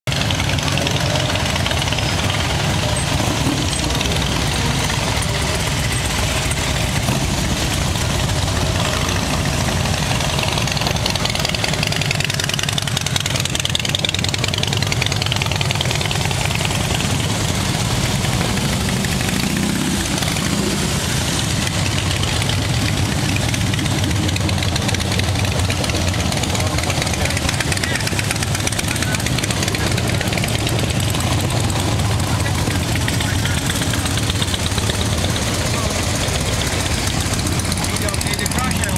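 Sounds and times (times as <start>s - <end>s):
motorcycle engines passing slowly: 0.1s - 38.9s.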